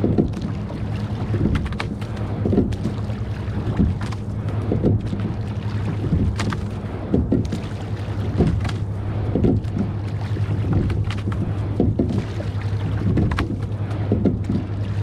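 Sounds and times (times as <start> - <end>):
oars splashing and knocking: 0.0 - 15.0
steady low hum: 0.0 - 15.0.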